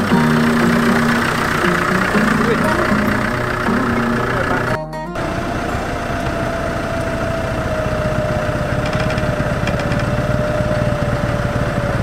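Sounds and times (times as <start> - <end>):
steady whine: 0.0 - 11.7
vehicle engine rumbling: 0.0 - 12.0.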